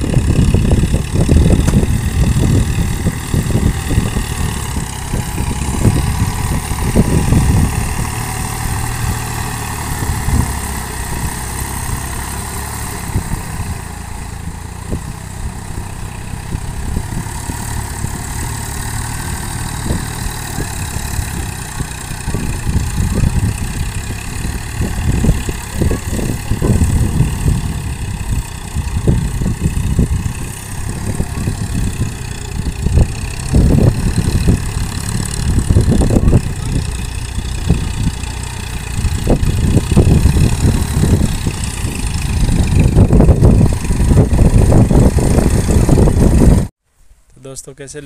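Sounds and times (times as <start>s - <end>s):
tractor diesel engine rumbling: 0.0s - 46.8s.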